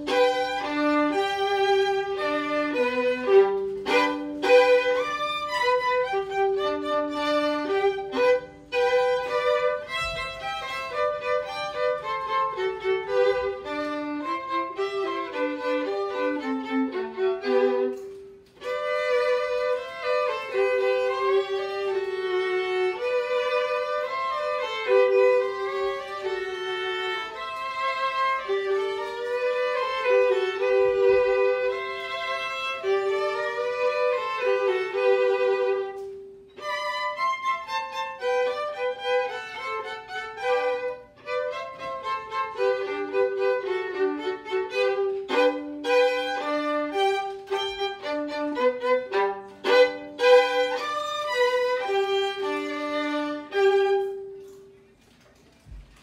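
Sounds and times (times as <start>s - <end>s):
violin duet: 0.0s - 56.0s.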